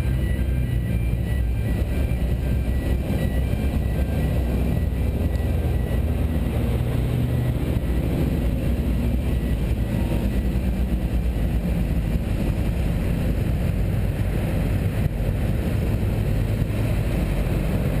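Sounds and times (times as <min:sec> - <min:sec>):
car engine humming: 0:00.0 - 0:18.0
road noise: 0:00.0 - 0:18.0.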